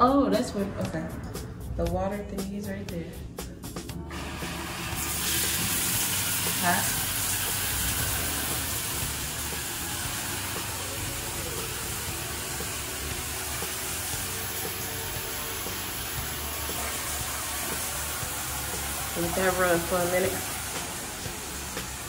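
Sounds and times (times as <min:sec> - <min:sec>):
shower water spraying on tiles: 0:04.1 - 0:22.0.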